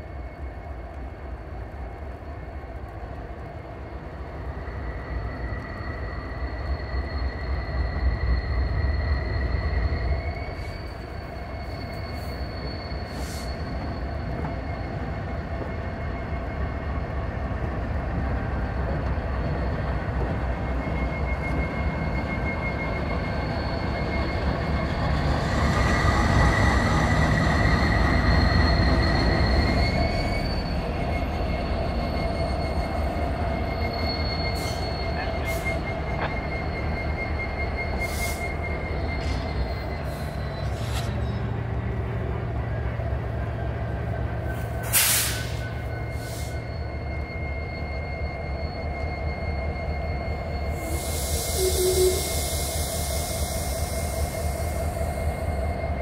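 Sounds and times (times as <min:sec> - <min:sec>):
diesel locomotive engine rumble: 0:00.0 - 0:56.0
high wheel squeal: 0:04.4 - 0:56.0.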